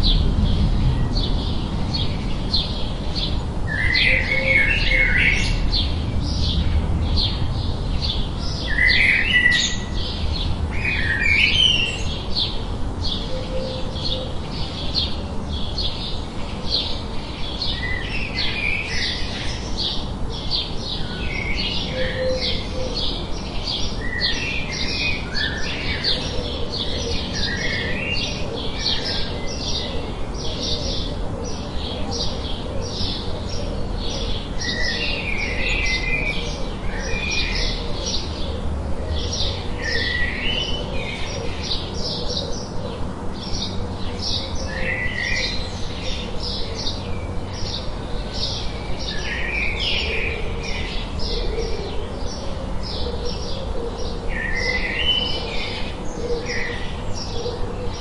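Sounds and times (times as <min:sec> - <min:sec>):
low background rush: 0:00.0 - 0:58.0.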